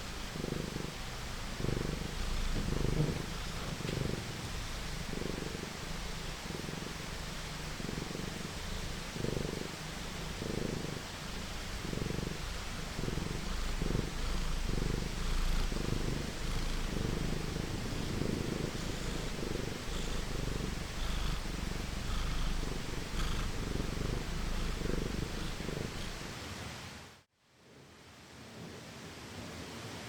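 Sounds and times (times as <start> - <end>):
cat purring: 0.0 - 26.4
rain hissing: 0.0 - 27.1.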